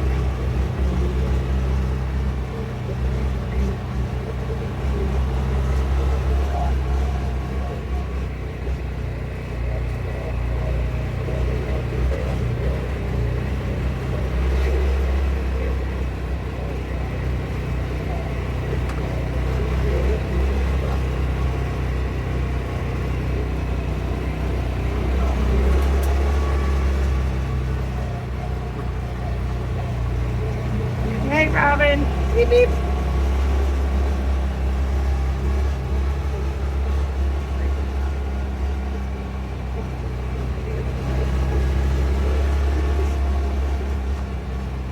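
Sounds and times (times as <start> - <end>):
off-road vehicle engine droning: 0.0 - 44.9.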